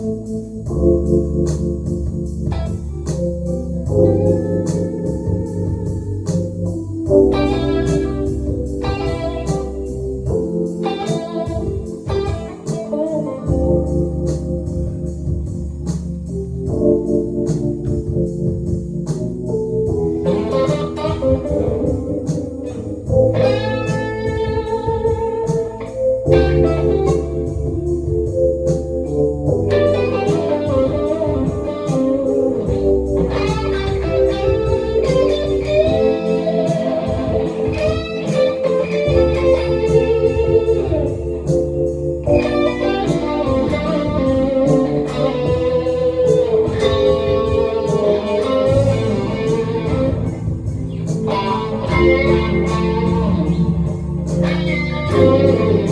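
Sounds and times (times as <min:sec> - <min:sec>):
electric guitar blues lead: 0:00.0 - 0:55.9
low bass line: 0:00.0 - 0:55.9.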